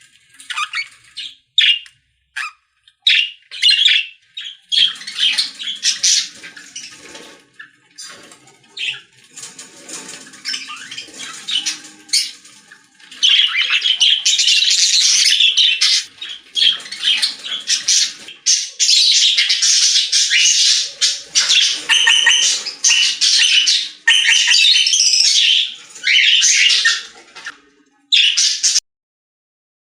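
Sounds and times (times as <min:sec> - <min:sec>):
birds chattering and squawking: 0:00.0 - 0:28.8.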